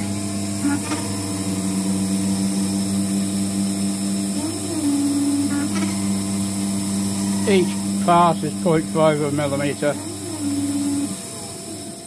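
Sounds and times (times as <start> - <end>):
lathe motor hum and whine: 0.0 - 12.0.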